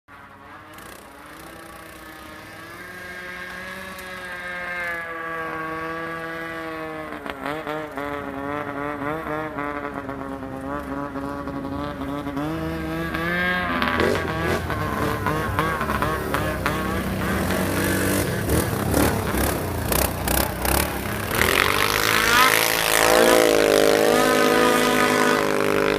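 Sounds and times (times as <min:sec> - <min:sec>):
atv engine revving: 0:00.1 - 0:25.9.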